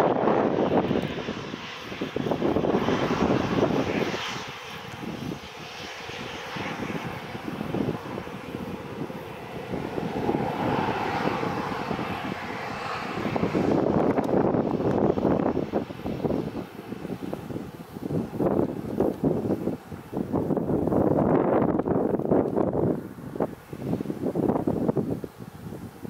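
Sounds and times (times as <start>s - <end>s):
airliner engines rushing: 0.0s - 26.0s.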